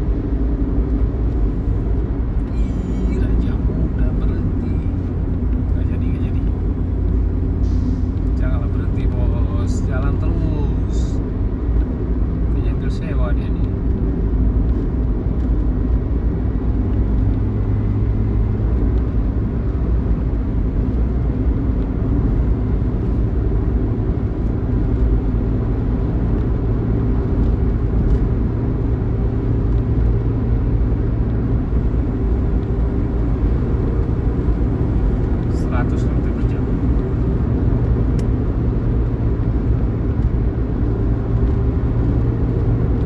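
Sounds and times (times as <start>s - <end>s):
bus engine drone: 0.0s - 43.0s
road rumble: 0.0s - 43.0s.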